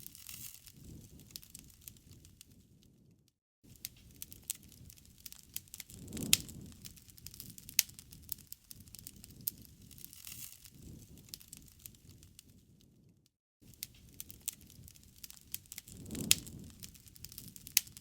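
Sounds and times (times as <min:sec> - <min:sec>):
campfire crackling and popping: 0:00.0 - 0:18.0
low rumble of flames: 0:00.0 - 0:18.0.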